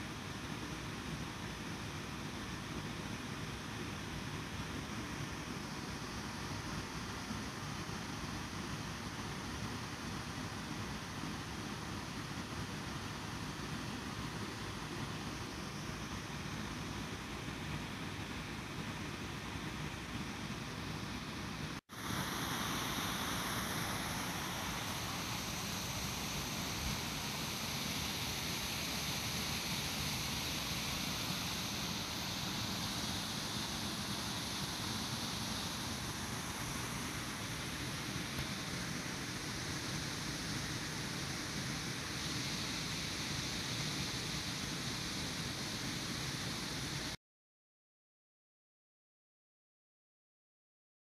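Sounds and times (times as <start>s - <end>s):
steady rushing noise: 1.0s - 47.2s.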